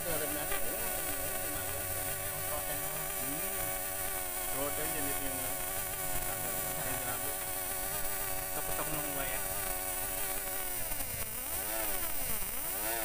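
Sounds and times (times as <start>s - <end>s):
test bench motor humming: 0.0s - 13.0s.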